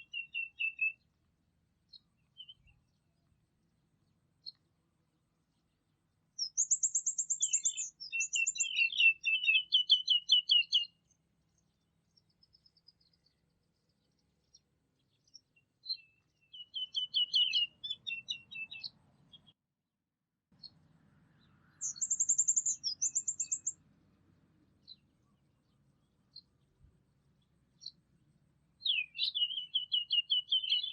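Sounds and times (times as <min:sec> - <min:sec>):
songbird singing trills: 0:00.0 - 0:01.2, 0:01.8 - 0:03.4, 0:04.0 - 0:04.8, 0:05.4 - 0:19.6, 0:20.6 - 0:23.8, 0:24.6 - 0:28.0, 0:28.7 - 0:30.9.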